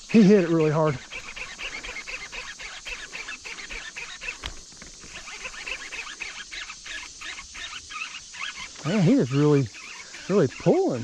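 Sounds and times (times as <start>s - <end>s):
fishing reel clicking: 0.1s - 11.0s.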